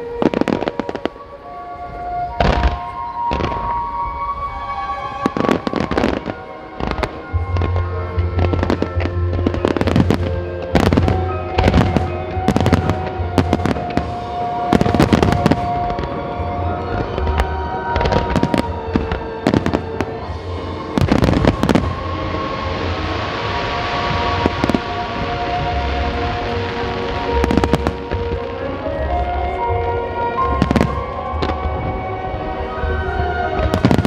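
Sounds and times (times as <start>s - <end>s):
music with steady bass: 1.5s - 34.0s.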